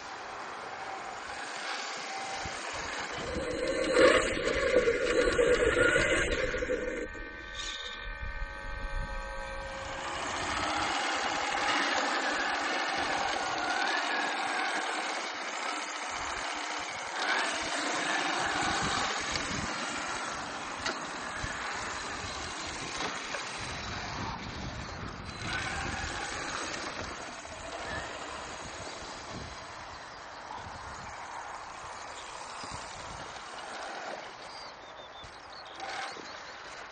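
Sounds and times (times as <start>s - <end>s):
electric motor and gear whine: 0.0s - 36.9s.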